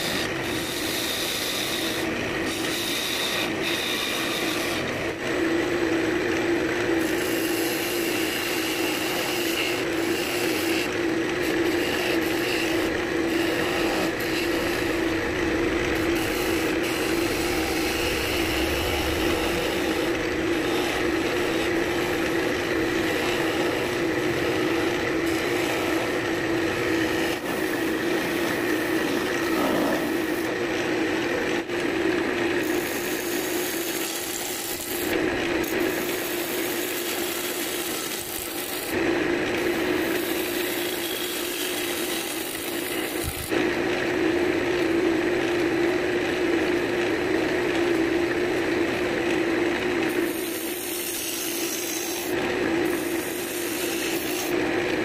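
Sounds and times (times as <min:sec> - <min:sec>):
turning tool cutting wood: 0:00.0 - 0:43.6, 0:49.2 - 0:55.0
wood lathe humming: 0:00.0 - 0:43.6, 0:48.8 - 0:55.0.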